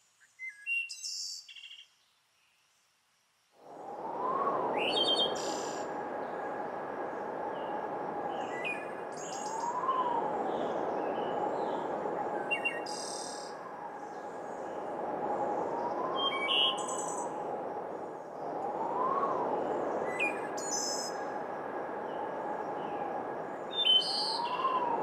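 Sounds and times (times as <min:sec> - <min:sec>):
steady rushing ambience: 0:03.6 - 0:25.0.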